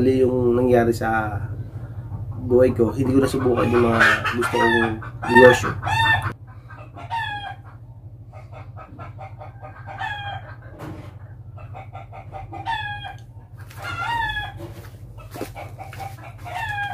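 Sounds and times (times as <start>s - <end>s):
chickens calling: 0.0s - 16.9s
steady low hum: 0.0s - 16.9s.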